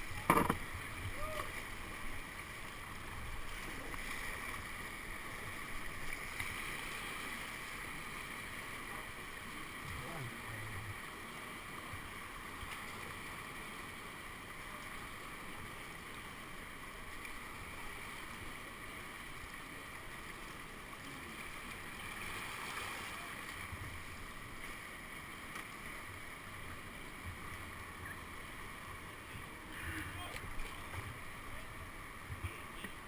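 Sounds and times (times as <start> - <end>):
whitewater rushing: 0.0 - 33.0.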